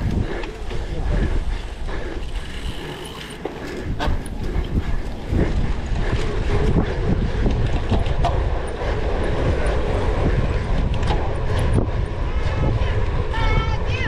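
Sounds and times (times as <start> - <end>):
bike rattling and knocking: 0.0 - 13.2
wind rushing over microphone: 0.0 - 14.0.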